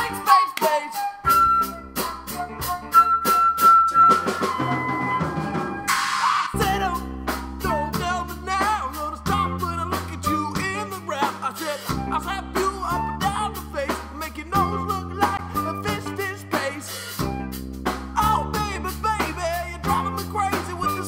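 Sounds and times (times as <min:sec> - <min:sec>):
drum kit beating: 0:00.0 - 0:21.0
indie rock song: 0:00.0 - 0:21.0.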